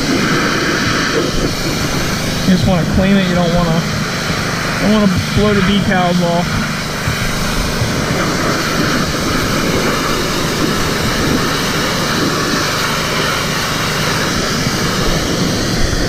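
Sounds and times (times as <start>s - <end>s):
pressure washer motor running: 0.0s - 16.0s
pressure washer water jet hissing: 0.0s - 16.0s.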